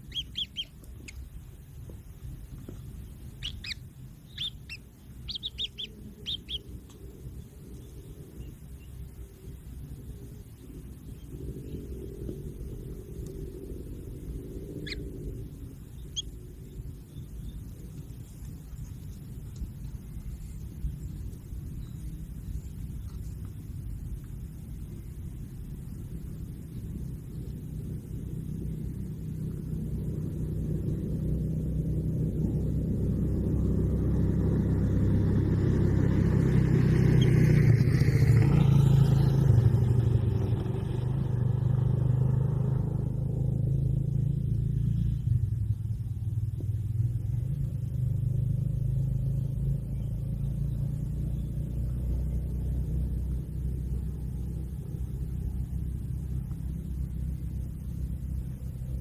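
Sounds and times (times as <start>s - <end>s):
passing vehicle engine rumble: 0.0s - 59.0s.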